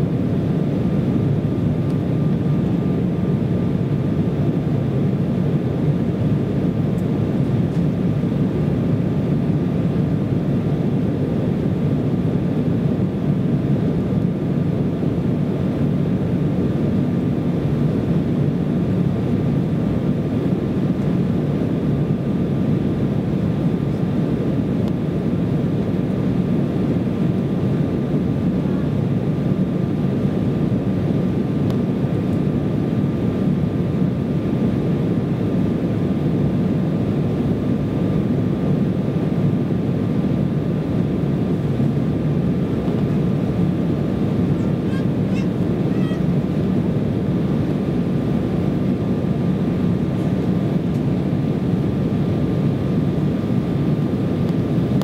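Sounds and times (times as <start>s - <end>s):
faint high whine: 0.0s - 55.0s
jet engine cabin rumble: 0.0s - 55.0s.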